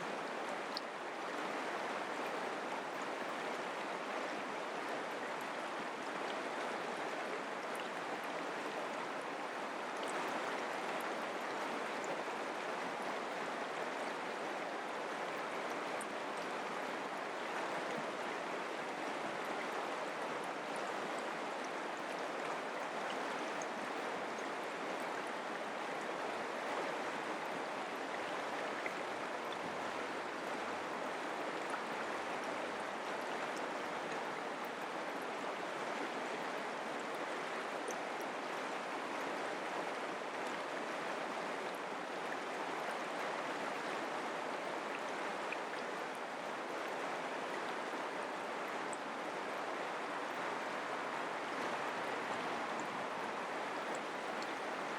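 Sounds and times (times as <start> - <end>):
creek flowing over rocks: 0.0 - 54.9.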